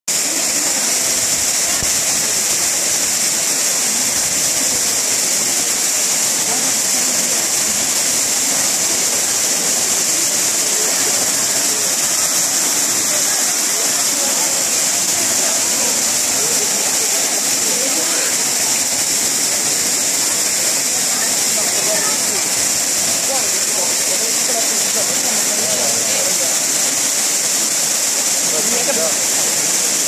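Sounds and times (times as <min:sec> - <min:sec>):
waterfall pouring into pool: 0:00.1 - 0:30.0.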